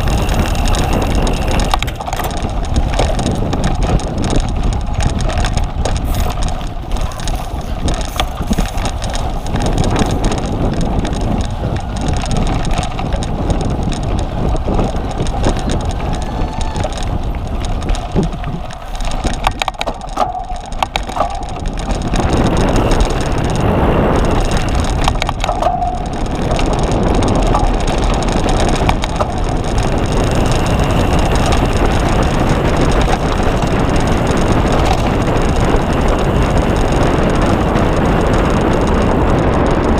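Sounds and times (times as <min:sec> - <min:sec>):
bike frame rattling: 0:00.0 - 0:39.9
bike tyres crunching on dirt: 0:00.0 - 0:39.9
wind on microphone: 0:00.0 - 0:39.9.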